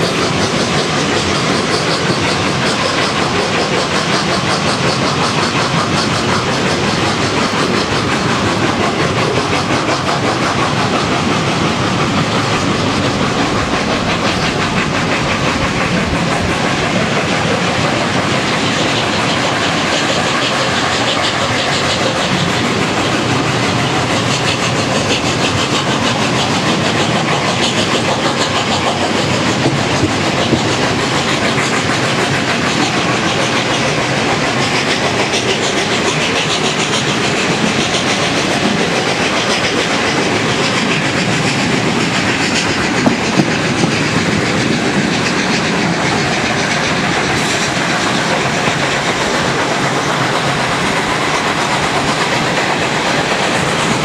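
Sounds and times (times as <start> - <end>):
train wheel and rail rush: 0.0 - 54.0.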